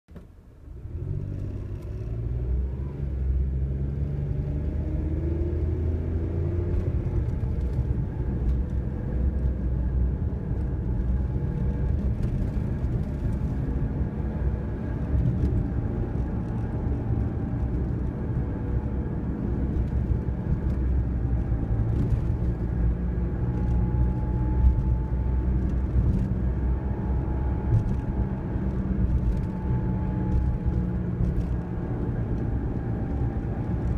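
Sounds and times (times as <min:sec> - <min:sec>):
road and tyre rumble: 0:00.1 - 0:33.9.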